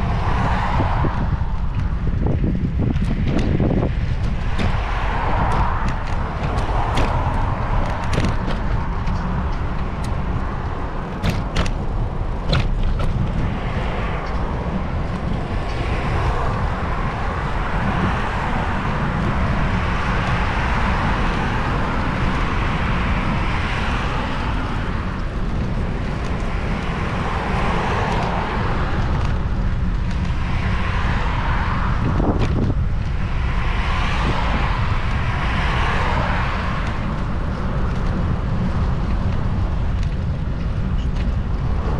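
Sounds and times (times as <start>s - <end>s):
traffic: 0.0s - 41.9s
vehicle road noise rumble: 0.0s - 41.9s.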